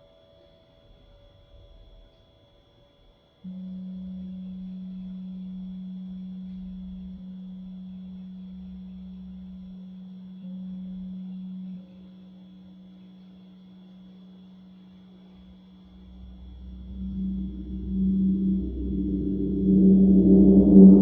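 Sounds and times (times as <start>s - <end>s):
faint dehumidifier hum: 0.0s - 21.0s
pure low ringing tone: 0.0s - 21.0s.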